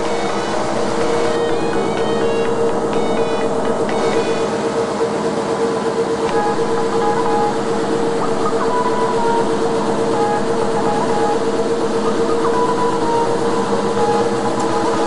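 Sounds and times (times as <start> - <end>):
lathe machine hum: 0.0 - 15.0
short machine whines: 0.0 - 15.0.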